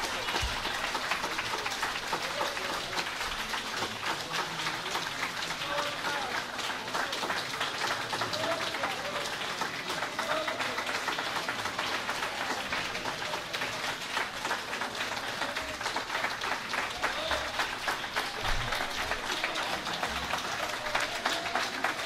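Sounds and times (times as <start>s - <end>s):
audience applauding: 0.0s - 22.0s
crowd talking: 0.0s - 22.0s.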